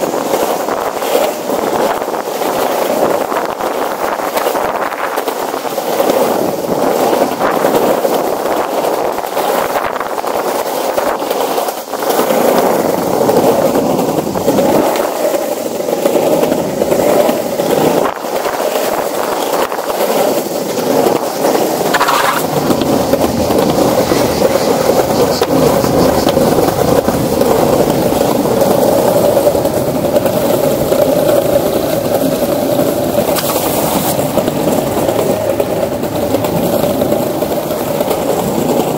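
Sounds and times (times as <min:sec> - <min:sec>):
skateboard wheels rolling on planks: 0:00.0 - 0:38.9
wheels clicking over board joints: 0:00.0 - 0:38.9.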